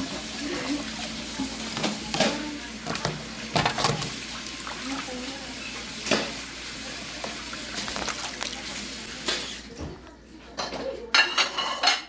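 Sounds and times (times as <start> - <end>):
tap water running into sink: 0.0 - 9.7.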